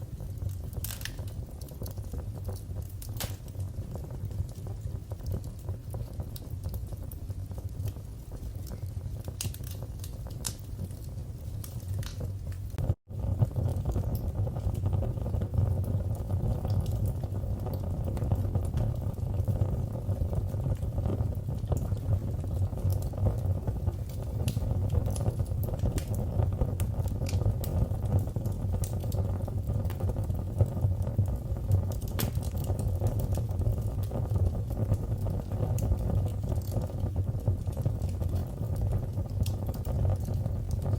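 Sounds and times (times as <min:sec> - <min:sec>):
fire pops: 0:00.0 - 0:40.9
wood fire crackling: 0:00.0 - 0:40.9.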